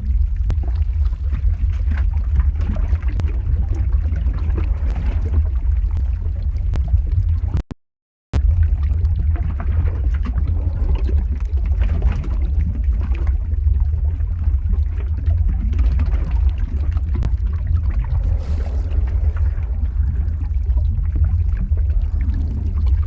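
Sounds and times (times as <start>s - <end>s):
lava crackling and sizzling: 0.0s - 7.6s, 8.4s - 23.0s
lava low rumble: 0.0s - 7.6s, 8.4s - 23.0s.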